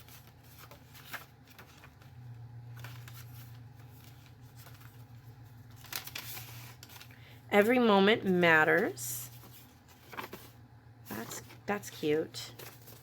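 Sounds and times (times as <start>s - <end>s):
faint low hum: 0.0s - 13.0s
paper pages rustling: 0.0s - 13.0s.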